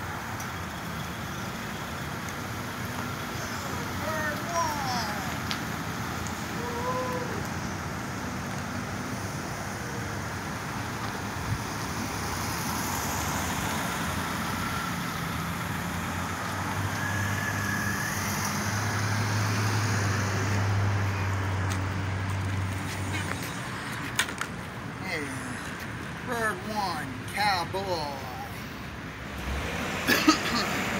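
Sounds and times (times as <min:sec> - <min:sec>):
road traffic noise: 0:00.0 - 0:30.9
vehicle engine humming: 0:00.0 - 0:30.9.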